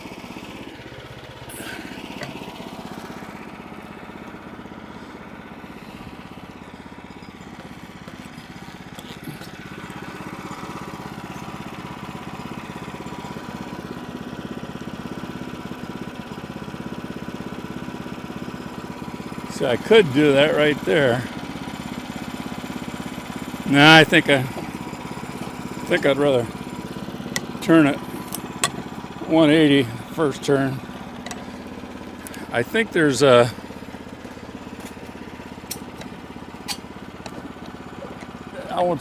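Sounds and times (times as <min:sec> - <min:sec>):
small engine idling: 0:00.0 - 0:39.0.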